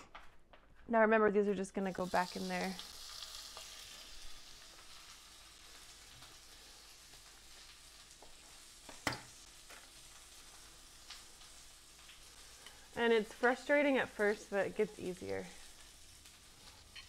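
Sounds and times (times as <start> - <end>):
faint steady hiss: 1.7 - 17.0.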